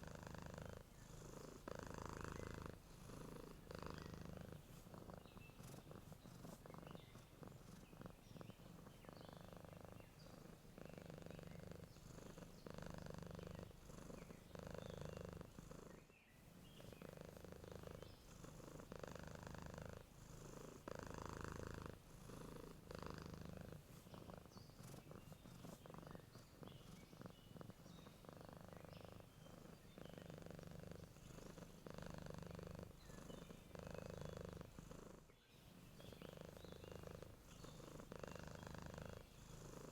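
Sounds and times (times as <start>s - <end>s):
cat purring: 0.0s - 39.9s
faint bird chirps: 0.0s - 39.9s.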